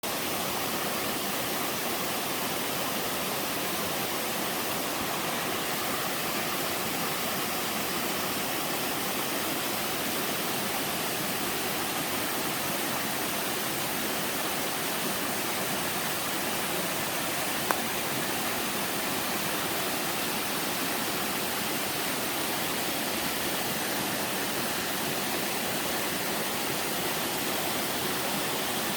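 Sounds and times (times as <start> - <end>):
water rushing down waterfall: 0.0 - 28.9.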